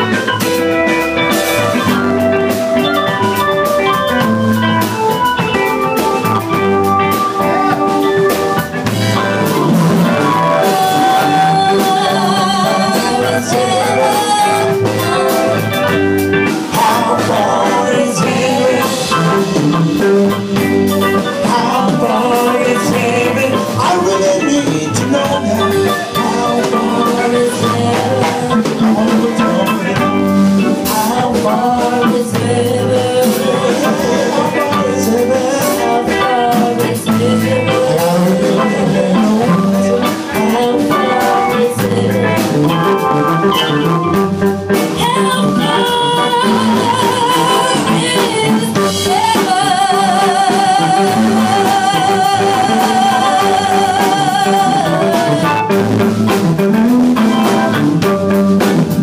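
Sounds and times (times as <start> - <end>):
music with singing over beat: 0.0 - 59.0.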